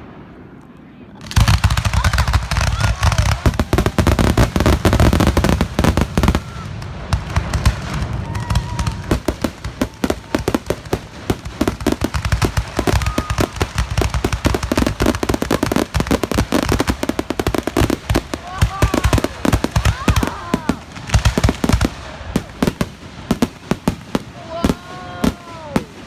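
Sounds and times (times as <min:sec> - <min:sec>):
fireworks bangs and crackling pops: 0:00.0 - 0:26.0
heavy fireworks booms: 0:00.0 - 0:26.0.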